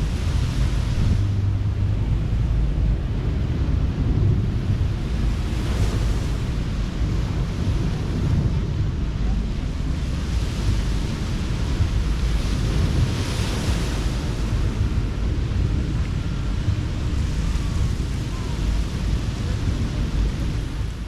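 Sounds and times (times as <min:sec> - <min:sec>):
ocean surf washing on beach: 0:00.0 - 0:21.0
wind rumbling on microphone: 0:00.0 - 0:21.0.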